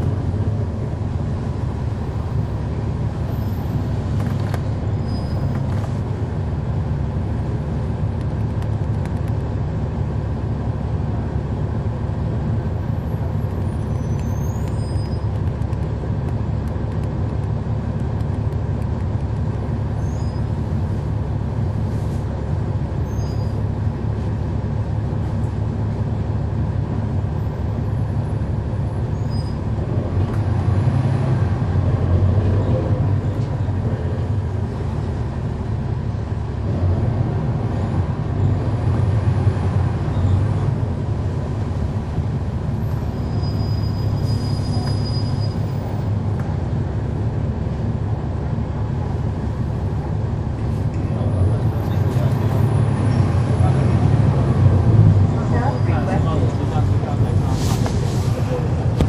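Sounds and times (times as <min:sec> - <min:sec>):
diesel bus engine rumbling: 0:00.0 - 0:59.0.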